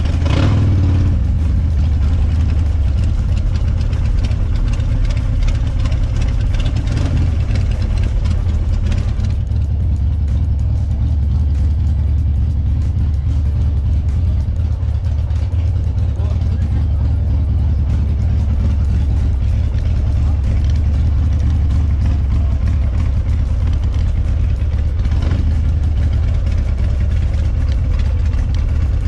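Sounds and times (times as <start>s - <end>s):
motorcycle engine rumbling: 0.0s - 29.0s.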